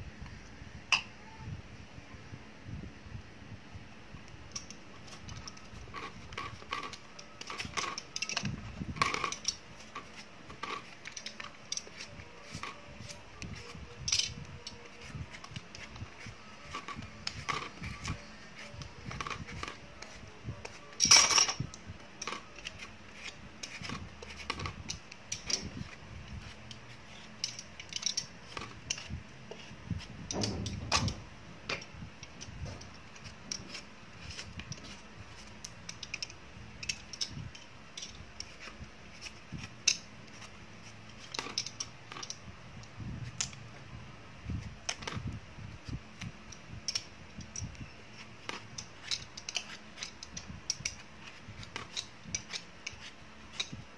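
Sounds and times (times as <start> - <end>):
food preparation clicks and scrapes: 4.5 - 42.5, 44.5 - 53.9.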